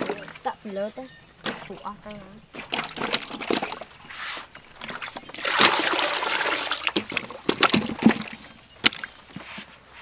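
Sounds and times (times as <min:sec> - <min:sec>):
water splashing in metal basin: 0:00.0 - 0:00.6, 0:01.4 - 0:09.1.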